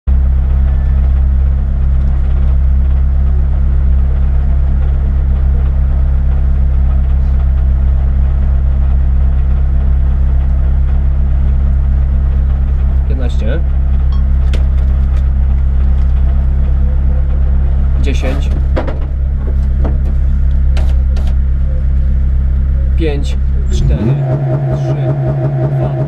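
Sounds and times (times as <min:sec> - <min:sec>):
car engine idling: 0:00.1 - 0:26.0.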